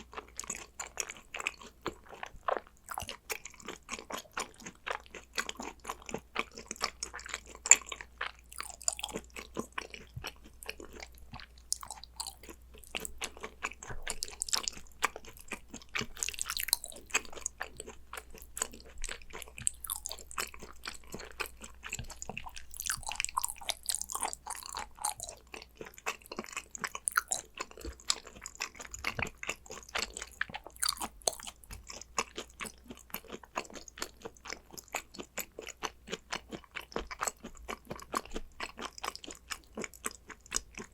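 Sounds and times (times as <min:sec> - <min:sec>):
wet chewing mouth sounds: 0:00.0 - 0:40.9.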